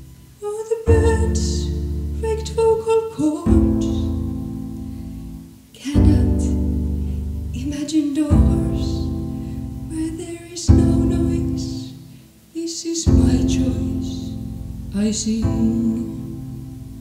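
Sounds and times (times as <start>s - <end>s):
slow piano chords: 0.0s - 17.0s
woman singing: 0.4s - 4.3s, 5.7s - 9.3s, 9.9s - 16.6s.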